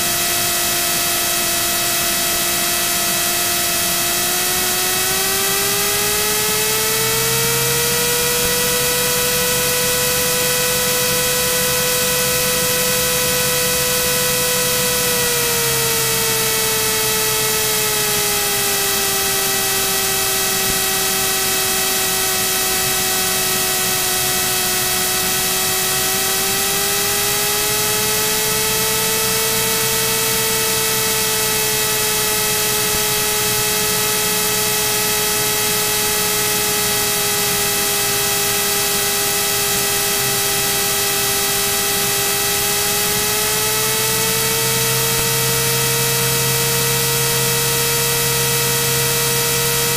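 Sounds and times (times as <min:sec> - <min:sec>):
aircraft engine drone: 0:00.0 - 0:49.9
whine drifting in pitch: 0:00.0 - 0:49.9.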